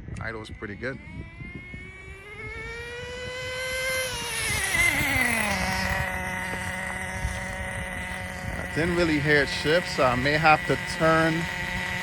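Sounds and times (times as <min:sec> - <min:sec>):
nitro engine revving and idling: 0:00.2 - 0:12.0.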